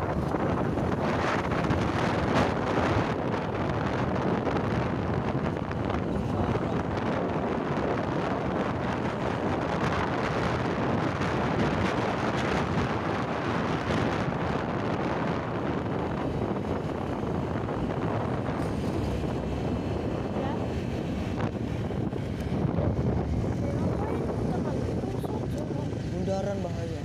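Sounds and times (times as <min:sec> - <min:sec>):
vehicle road noise: 0:00.0 - 0:27.0
wind rushing over microphone: 0:00.0 - 0:27.0.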